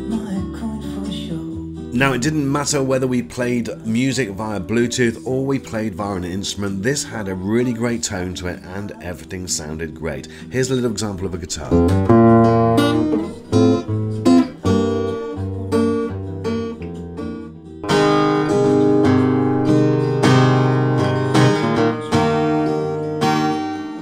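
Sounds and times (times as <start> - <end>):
acoustic guitar strummed and picked: 0.0 - 24.0.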